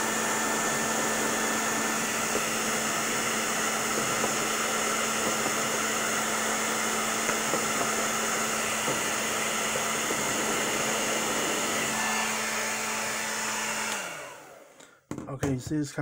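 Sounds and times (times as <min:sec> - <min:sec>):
hair dryer blowing: 0:00.0 - 0:14.8.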